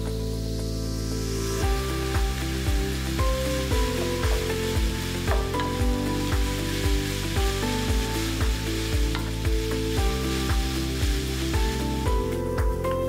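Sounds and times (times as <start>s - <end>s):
rice sizzling in a pan: 0.0s - 12.8s
background music with bass: 0.0s - 13.0s.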